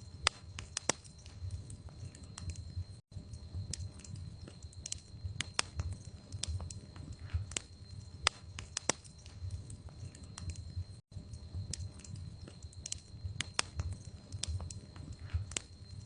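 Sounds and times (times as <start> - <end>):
low rumble of flame: 0.0 - 16.0
logs crackling and popping: 0.2 - 16.0.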